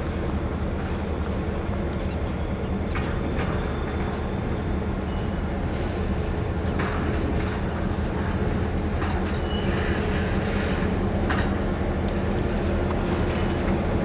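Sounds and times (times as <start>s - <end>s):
diesel locomotive engine droning: 0.0s - 14.0s.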